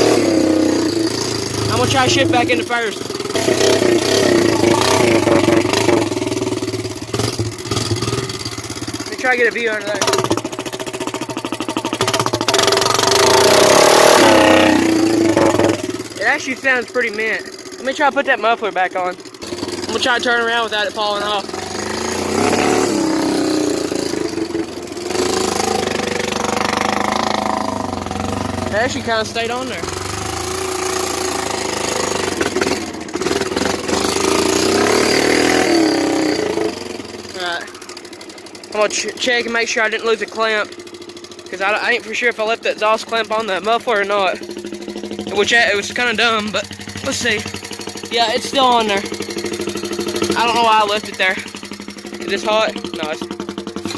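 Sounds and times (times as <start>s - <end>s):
engine idling and revving: 0.0s - 53.9s.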